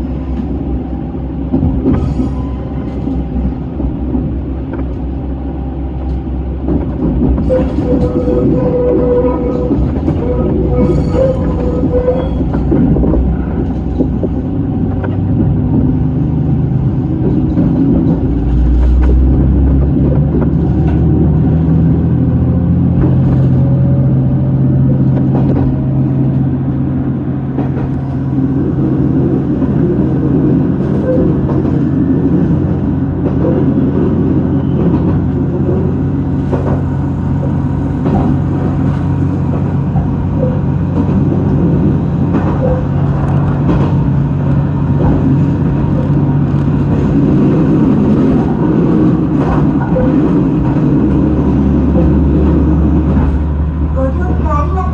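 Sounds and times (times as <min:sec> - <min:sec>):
diesel railcar engine rumbling: 0:00.0 - 0:54.9.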